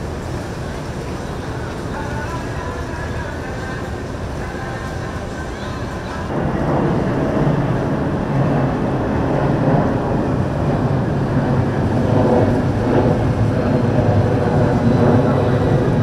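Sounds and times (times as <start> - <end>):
boat engines rumbling: 0.0 - 16.0.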